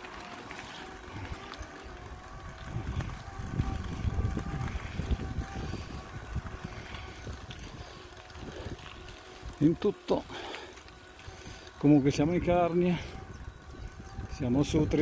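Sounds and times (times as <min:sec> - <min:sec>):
wind buffeting microphone: 0:01.1 - 0:09.6, 0:11.3 - 0:15.0.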